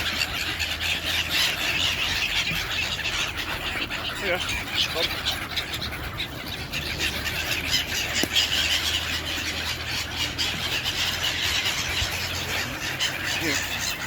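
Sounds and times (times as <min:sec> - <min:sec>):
seagulls calling: 0:00.0 - 0:14.0.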